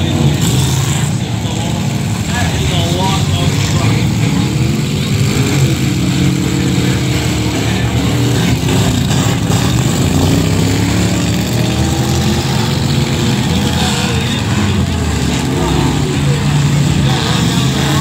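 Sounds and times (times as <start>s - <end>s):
truck engines racing: 0.0s - 18.0s.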